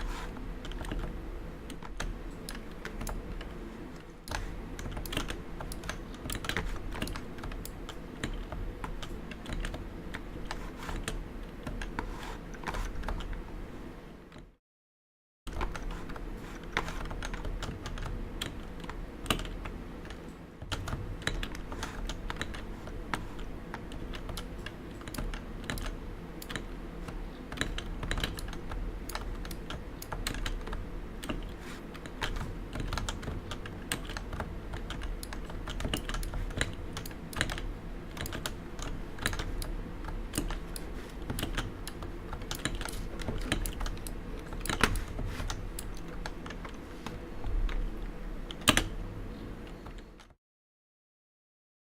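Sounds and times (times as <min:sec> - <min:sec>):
fast keyboard typing: 0:00.5 - 0:03.6, 0:04.3 - 0:13.4, 0:15.5 - 0:49.0.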